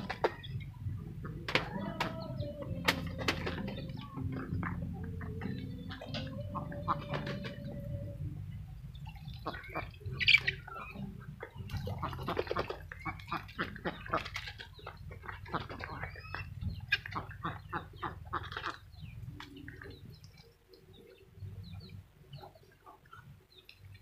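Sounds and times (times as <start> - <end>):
poultry peeping and clucking: 0.0 - 24.0.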